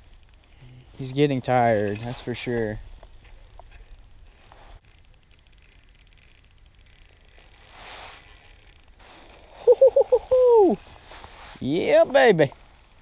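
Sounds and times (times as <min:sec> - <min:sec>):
fishing reel ticking: 0:00.0 - 0:13.0.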